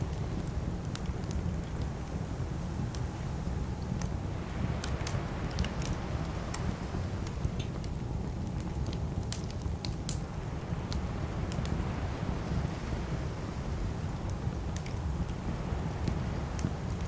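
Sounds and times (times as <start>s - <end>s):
burning wood crackling and popping: 0.0s - 17.0s
campfire burning with low rumble: 0.0s - 17.0s.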